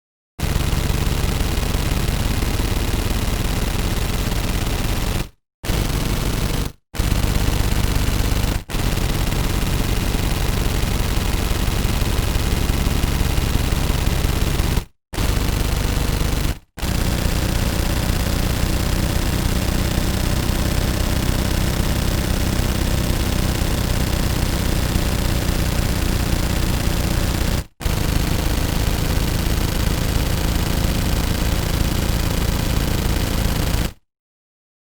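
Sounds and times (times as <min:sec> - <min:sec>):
automatic gunfire bursts: 0:00.4 - 0:34.0.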